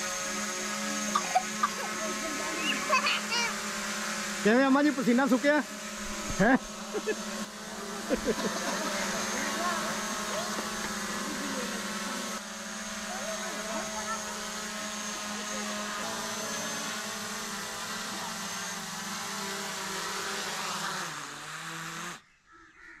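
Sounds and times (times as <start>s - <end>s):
drone propellers buzzing: 0.0s - 22.2s.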